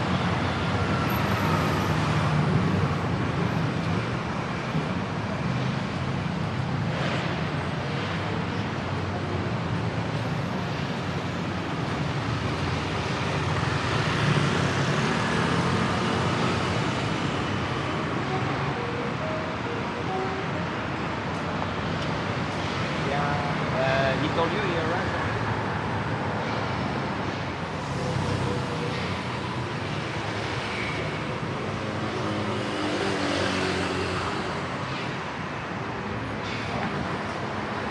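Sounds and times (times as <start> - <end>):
cars passing: 0.0 - 37.9.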